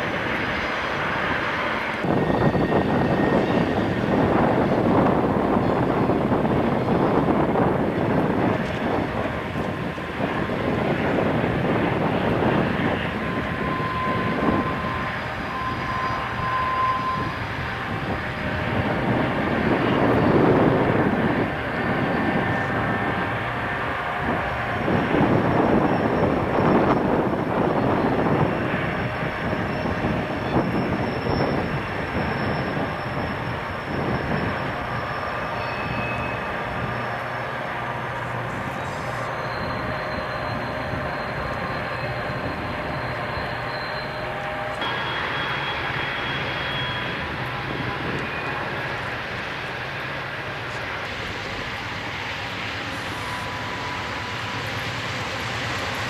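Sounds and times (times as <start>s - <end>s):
distant diesel locomotives droning: 0.0s - 56.0s.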